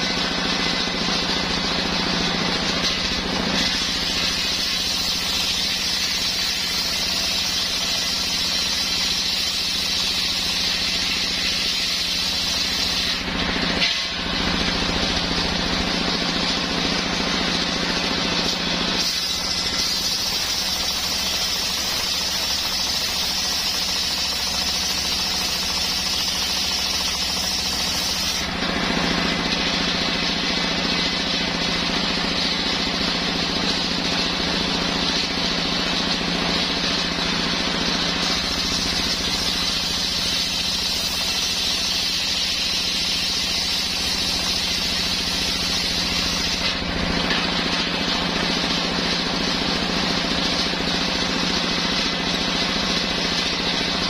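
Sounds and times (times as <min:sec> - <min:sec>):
circular saw cutting wood: 0:00.0 - 0:54.0.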